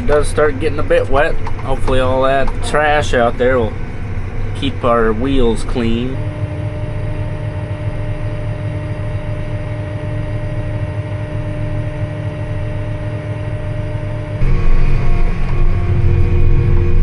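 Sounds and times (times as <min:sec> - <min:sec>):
faint steady hum: 0:00.0 - 0:17.0
tractor engine drone: 0:00.0 - 0:17.0.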